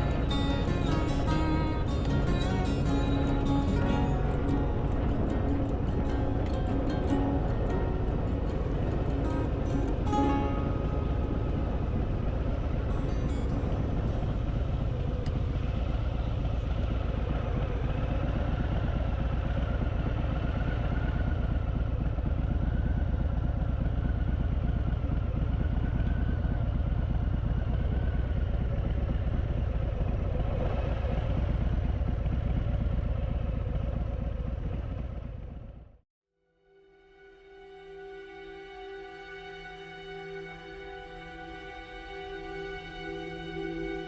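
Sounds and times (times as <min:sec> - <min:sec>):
motorcycle engine low rumble: 0:00.0 - 0:36.0.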